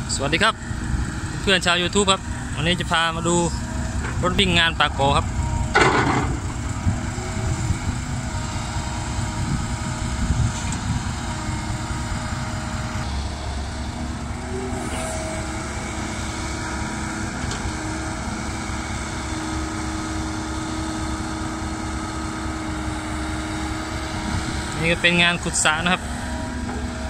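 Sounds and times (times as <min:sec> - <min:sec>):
heavy diesel machinery rumbling: 0:00.0 - 0:27.0.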